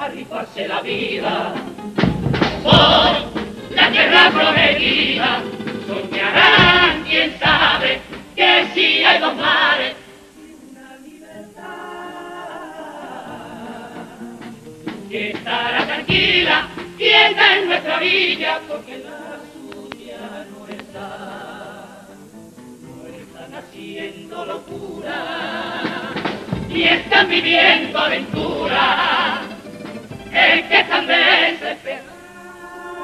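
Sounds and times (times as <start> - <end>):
guitars: 0.0 - 10.7, 11.4 - 33.0
male chorus singing: 0.0 - 22.2, 22.9 - 33.0.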